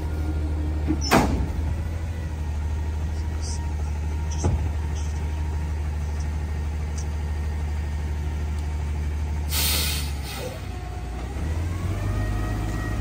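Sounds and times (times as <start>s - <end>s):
garbage truck engine idling: 0.0s - 13.0s.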